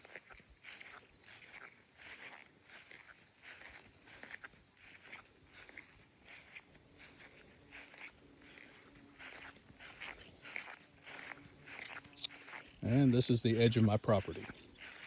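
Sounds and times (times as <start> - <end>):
footsteps swishing through grass: 0.0 - 15.0
insects trilling: 0.0 - 15.0.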